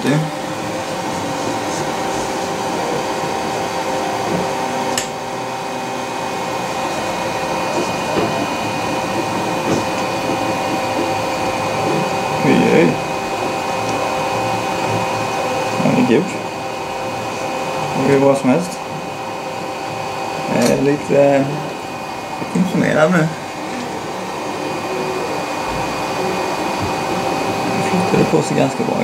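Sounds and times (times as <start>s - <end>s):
printer fan whirring: 0.0s - 29.0s
stepper motors whining: 0.0s - 29.0s.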